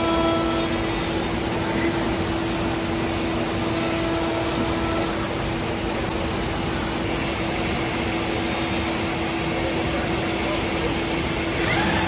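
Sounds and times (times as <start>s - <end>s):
broad machine noise: 0.0s - 12.0s
cnc spindle whine: 0.0s - 12.0s.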